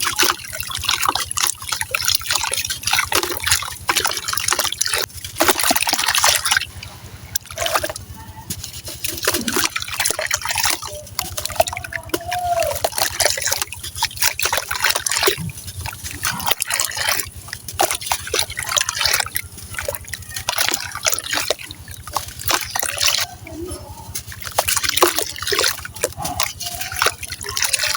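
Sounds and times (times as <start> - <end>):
water trickling and dripping: 0.0 - 27.9.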